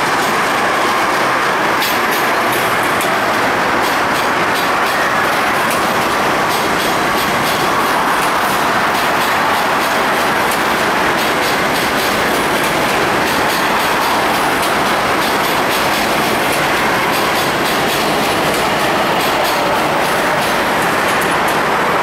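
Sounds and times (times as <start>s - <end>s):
clickety-clack of rail joints: 0.0s - 22.0s
train wheels rumbling on rail: 0.0s - 22.0s.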